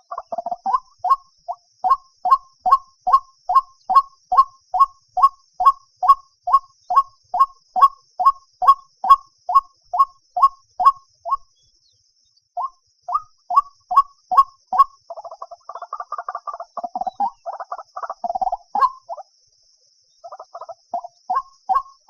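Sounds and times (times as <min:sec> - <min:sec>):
bird calling repeated kook notes: 0:00.0 - 0:11.7, 0:12.6 - 0:19.3, 0:20.2 - 0:22.0.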